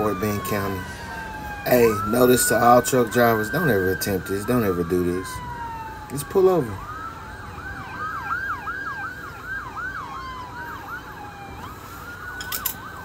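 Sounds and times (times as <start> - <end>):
long falling siren tone: 0.0 - 13.0
police sirens yelping: 0.0 - 13.0.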